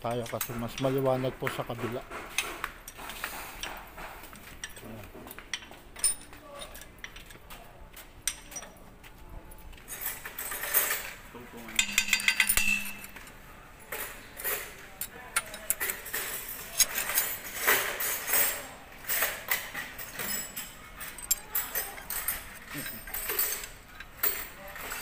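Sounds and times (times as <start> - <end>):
metal parts and tools clinking: 0.0 - 25.0.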